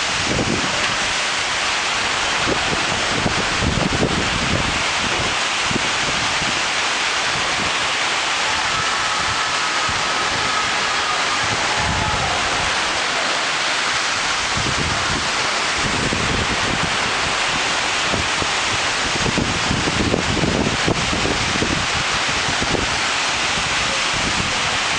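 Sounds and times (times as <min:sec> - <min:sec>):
heavy rain pouring: 0:00.0 - 0:24.9
wind gusts on microphone: 0:00.0 - 0:24.9.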